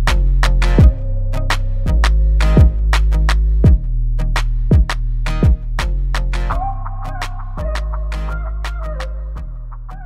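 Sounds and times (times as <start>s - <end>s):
background music with beat and bass: 0.0s - 10.0s.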